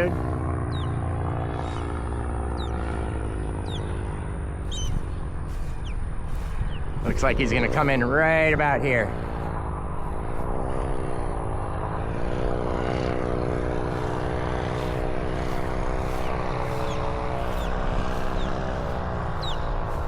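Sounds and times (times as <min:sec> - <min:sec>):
engine and propeller running: 0:00.0 - 0:20.0.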